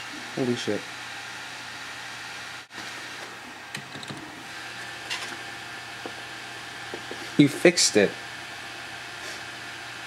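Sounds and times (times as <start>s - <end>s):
computer fan noise: 0.0s - 10.0s.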